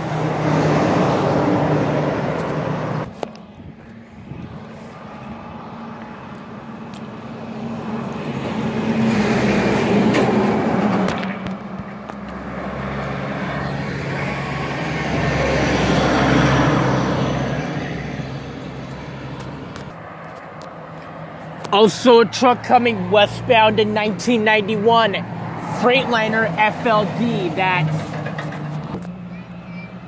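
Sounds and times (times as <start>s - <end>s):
vehicles driving past: 0.0s - 30.0s.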